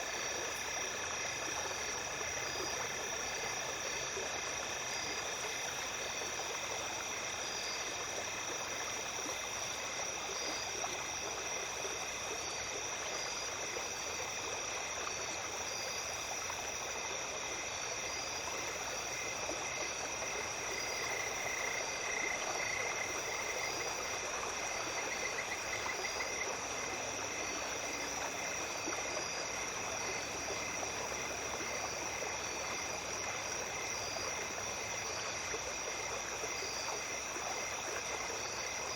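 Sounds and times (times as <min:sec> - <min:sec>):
creek babbling: 0:00.0 - 0:38.9
insect chirping: 0:00.0 - 0:38.9
insects trilling: 0:00.0 - 0:38.9.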